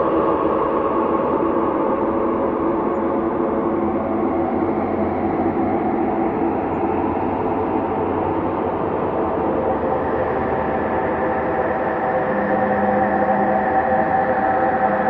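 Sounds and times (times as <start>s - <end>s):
layered drone tones: 0.0s - 15.0s.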